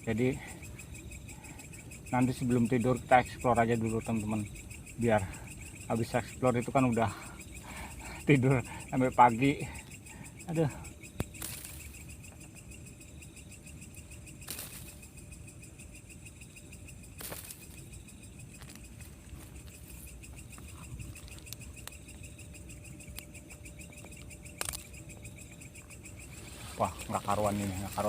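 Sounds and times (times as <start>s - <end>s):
crickets and insects trilling: 0.0s - 28.0s.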